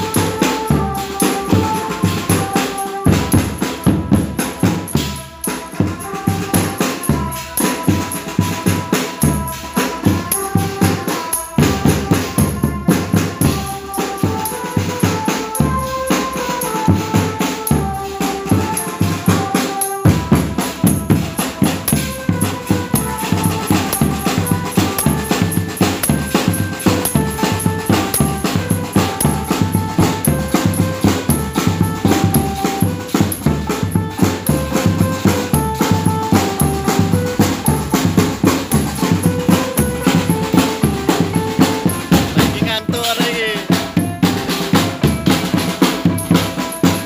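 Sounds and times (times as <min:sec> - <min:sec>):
drum band beating fast rhythm: 0:00.0 - 0:47.0
melody of held notes: 0:00.0 - 0:47.0.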